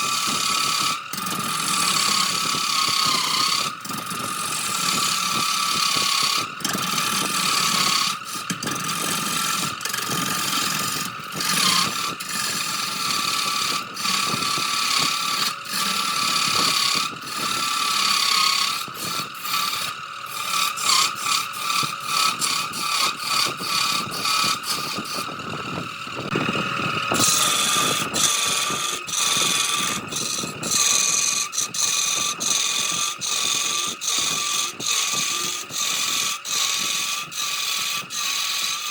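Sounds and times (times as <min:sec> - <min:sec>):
turning tool scraping wood: 0:00.0 - 0:38.9
wood lathe whining: 0:00.0 - 0:38.9.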